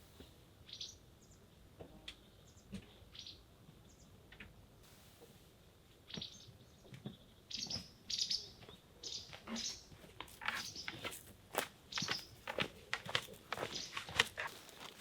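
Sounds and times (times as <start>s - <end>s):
small songbirds chirping: 0.2s - 4.2s, 6.0s - 15.0s.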